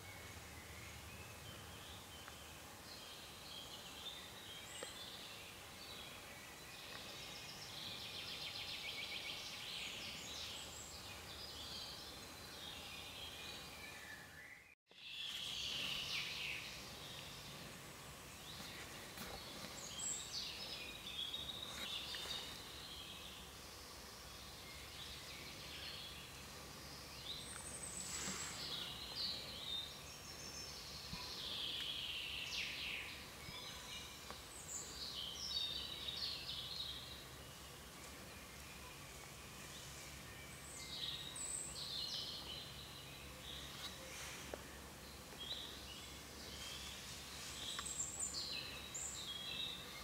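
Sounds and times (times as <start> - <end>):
faint background hiss: 0.0 - 50.0
songbirds singing: 0.0 - 50.0.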